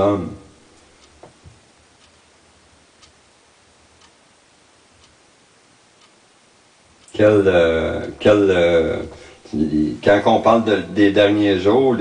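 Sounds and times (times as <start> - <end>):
clock ticking faintly: 0.0 - 11.4
low room hiss: 0.0 - 12.0.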